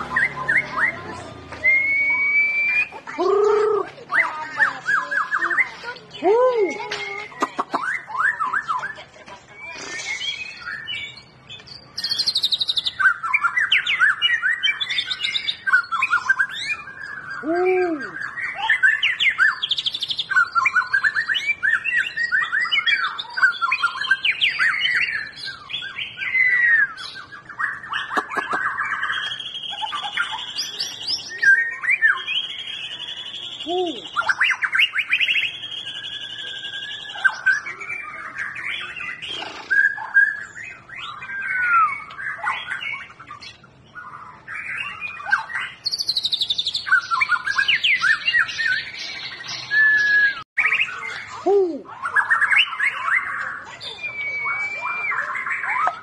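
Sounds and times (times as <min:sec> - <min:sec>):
songbird singing trills and whistles: 0:00.0 - 0:56.0.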